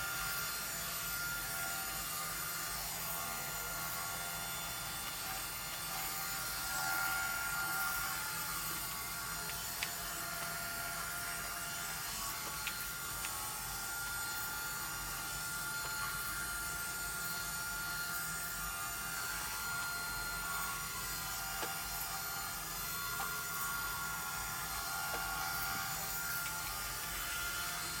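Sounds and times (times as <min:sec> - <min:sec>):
robot vacuum whirring: 0:01.2 - 0:28.0.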